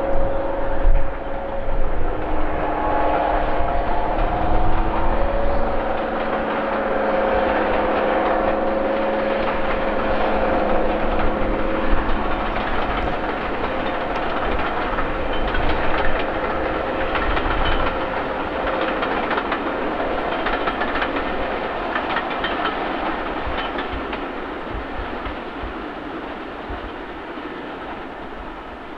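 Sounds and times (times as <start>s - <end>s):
train engine tone: 0.0s - 28.9s
train wheels clicking over rail joints: 4.0s - 28.9s.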